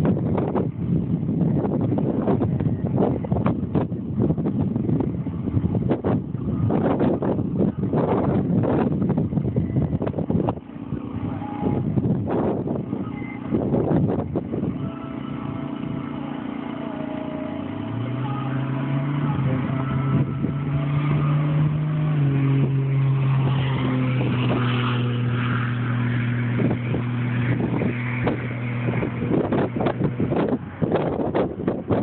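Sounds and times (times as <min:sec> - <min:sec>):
car engine accelerating hard: 0:00.0 - 0:32.0.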